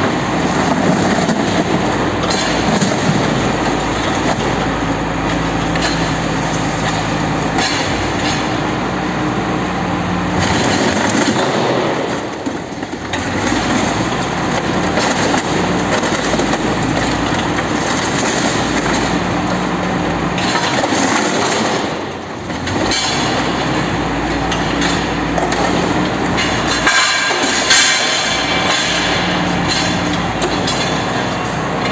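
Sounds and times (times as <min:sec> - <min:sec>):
machinery grinding: 0:00.0 - 0:31.9.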